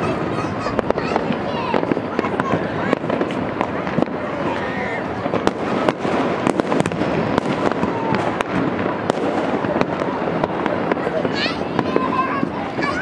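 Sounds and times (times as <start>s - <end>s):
distant fireworks bangs: 0.0s - 13.0s
sharp firecracker cracks: 0.7s - 12.6s.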